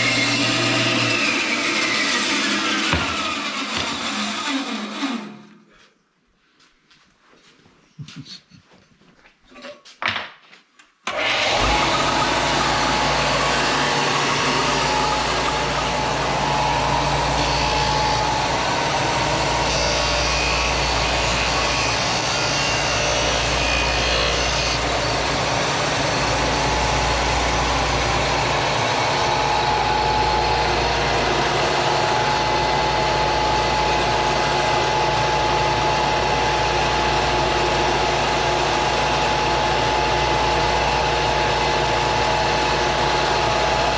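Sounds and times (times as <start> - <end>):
power tool whining: 0.0 - 5.6, 11.1 - 43.9.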